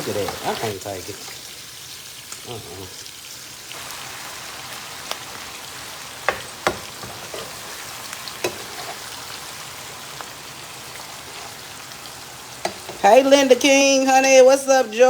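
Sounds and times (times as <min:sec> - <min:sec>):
food sizzling in hot grease: 0:00.0 - 0:15.0.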